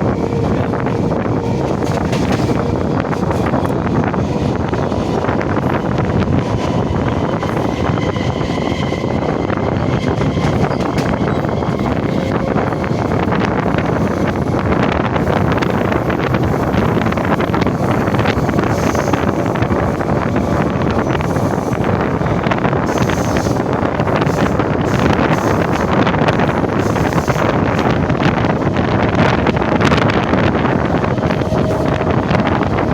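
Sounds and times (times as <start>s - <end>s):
train rushing past: 0.0s - 32.9s
wind buffeting microphone: 0.0s - 32.9s.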